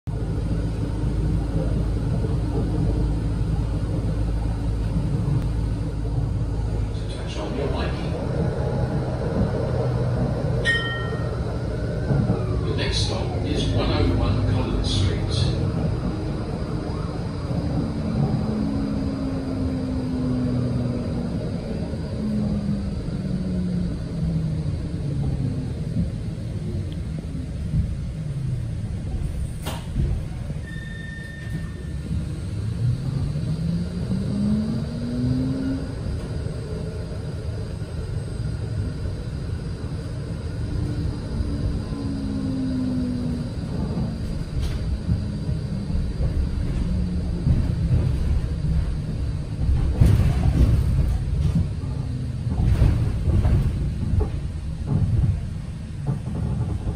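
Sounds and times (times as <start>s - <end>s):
tram rumbling: 0.0s - 56.9s
low motor hum: 0.1s - 30.5s, 32.0s - 56.9s.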